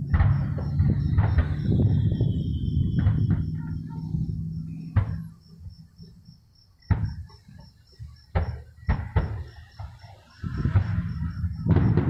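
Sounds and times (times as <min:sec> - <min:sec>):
distant fireworks booming: 0:00.0 - 0:12.0.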